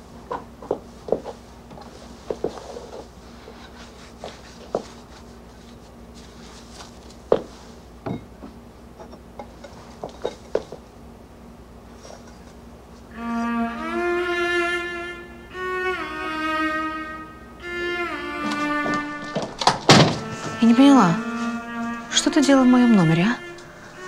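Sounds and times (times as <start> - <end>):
faint steady low hum: 0.0 - 24.0.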